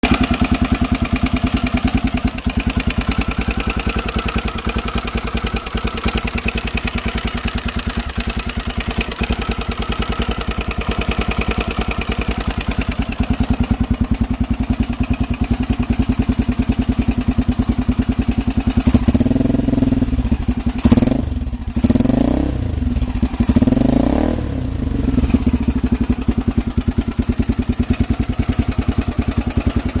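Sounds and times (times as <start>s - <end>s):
engine idling and revving: 0.0s - 30.0s.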